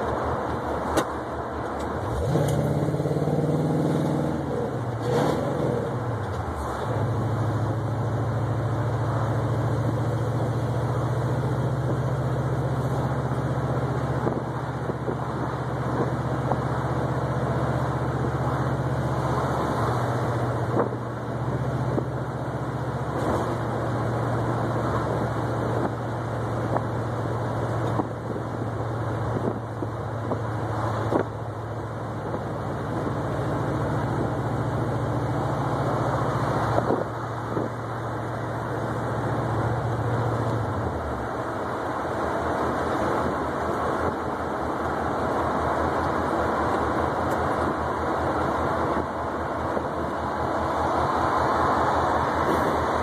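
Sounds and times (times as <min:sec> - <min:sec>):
car engine drone: 0:00.0 - 0:53.0
road noise: 0:00.0 - 0:53.0.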